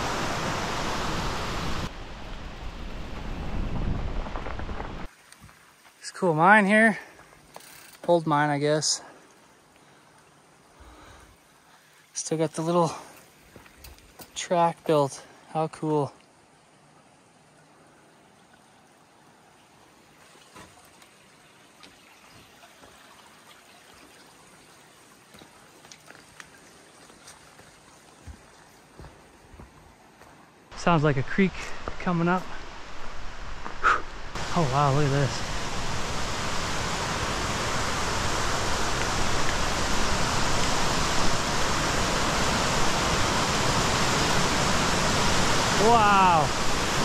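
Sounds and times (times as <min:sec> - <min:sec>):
creek rushing: 0:00.0 - 0:02.0, 0:04.3 - 0:47.0.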